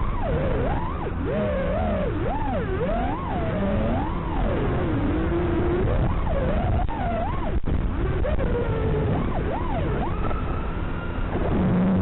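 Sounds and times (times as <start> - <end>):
drone motors whining: 0.0 - 12.0
steady rushing noise: 0.0 - 12.0.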